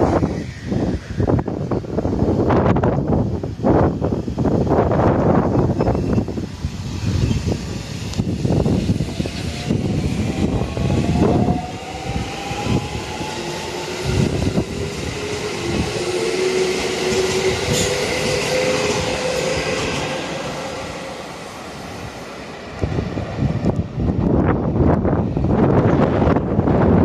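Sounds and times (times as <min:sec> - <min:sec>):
electric train motors whining: 0:00.0 - 0:22.2
wind buffeting microphone: 0:00.0 - 0:27.0.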